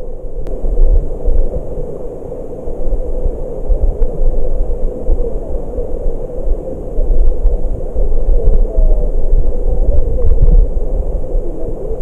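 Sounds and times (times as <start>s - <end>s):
muffled underwater stream rush: 0.0s - 12.0s.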